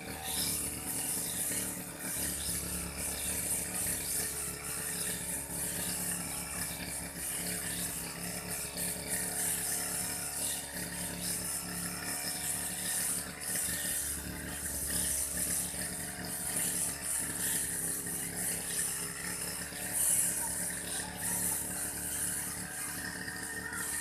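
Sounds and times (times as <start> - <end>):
grass cutter engine hum: 0.0 - 24.0
hiss of cutting grass: 0.0 - 24.0.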